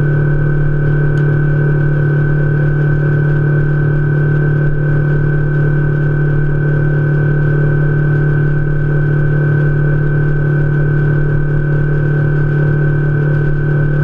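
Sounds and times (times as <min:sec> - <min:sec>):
high motor whine: 0:00.0 - 0:14.0
outboard motor drone: 0:00.0 - 0:14.0.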